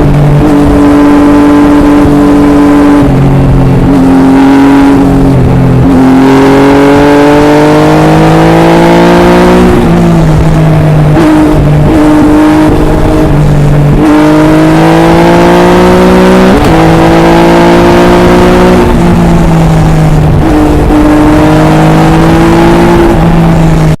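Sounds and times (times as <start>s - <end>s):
motorcycle engine through gears: 0.0s - 24.0s.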